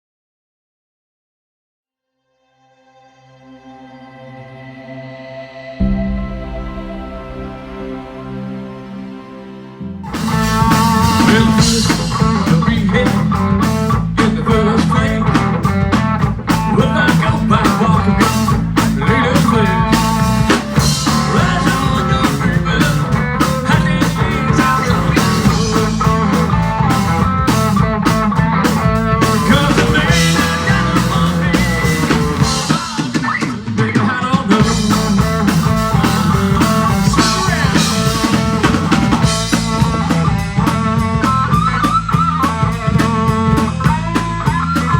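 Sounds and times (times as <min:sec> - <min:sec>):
rock band playing: 0:05.7 - 0:44.9.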